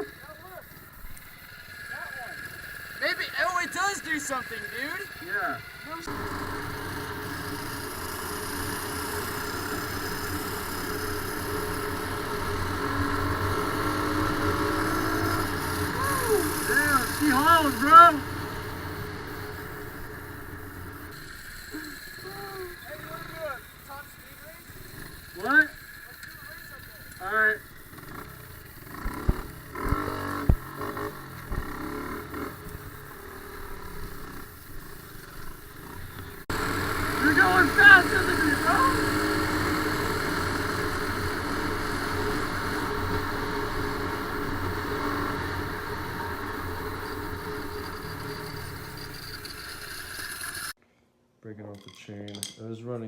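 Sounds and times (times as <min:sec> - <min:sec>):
small engine running: 0:00.0 - 0:50.8.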